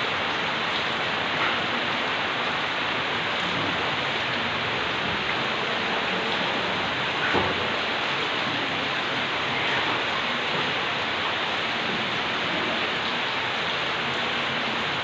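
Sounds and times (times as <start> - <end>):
heavy rainfall: 0.0 - 15.0.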